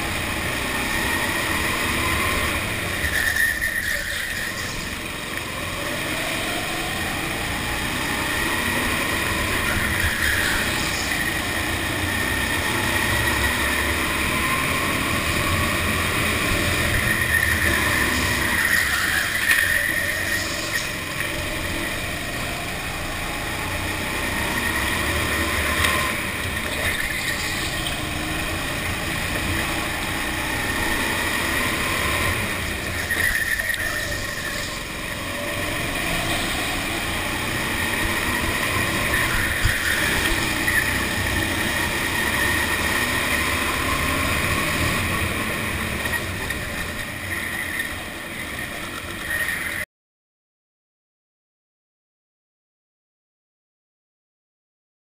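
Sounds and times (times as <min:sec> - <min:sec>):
go-kart engine racing: 0:00.0 - 0:49.9.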